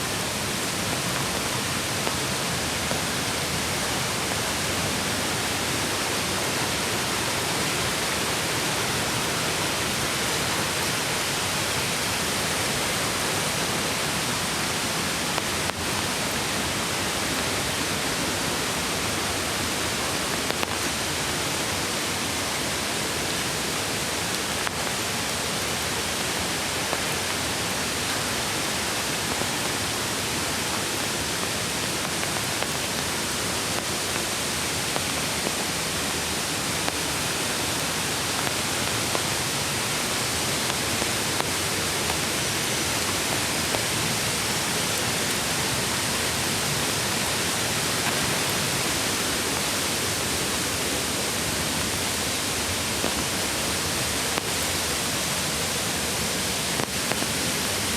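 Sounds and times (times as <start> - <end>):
creek water rushing: 0.0 - 57.9.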